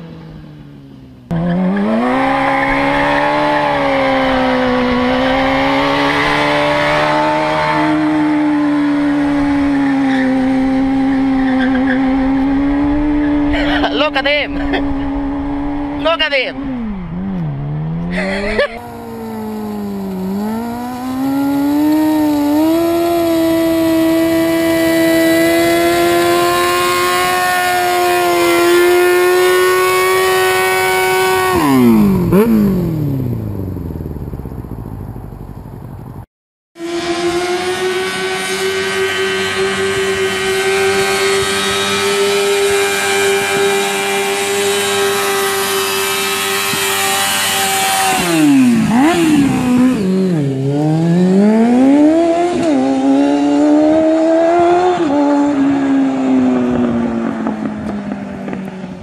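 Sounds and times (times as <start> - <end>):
motorbike engine at high revs: 0.0 - 59.0.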